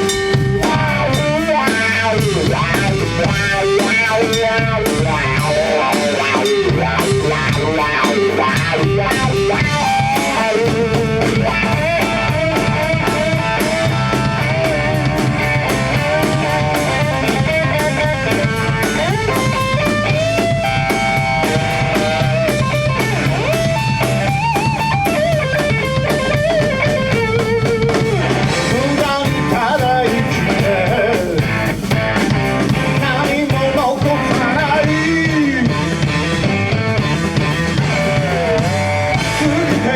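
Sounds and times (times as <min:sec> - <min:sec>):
bass guitar: 0:00.0 - 0:39.9
drums: 0:00.0 - 0:39.9
guitar melody with bending notes: 0:00.0 - 0:39.9.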